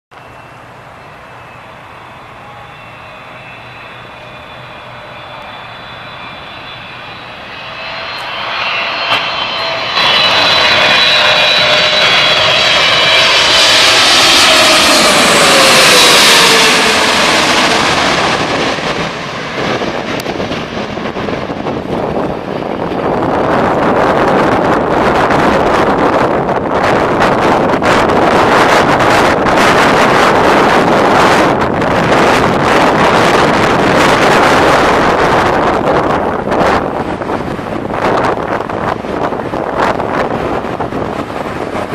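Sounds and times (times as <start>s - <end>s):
jet airliner whine overhead: 0.1s - 41.9s.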